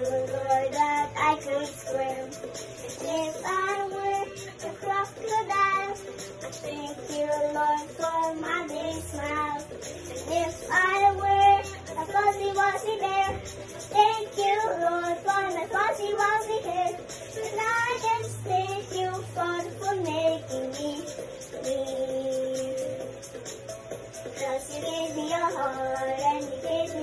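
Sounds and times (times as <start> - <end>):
girl singing: 0.0 - 23.1, 24.4 - 27.0.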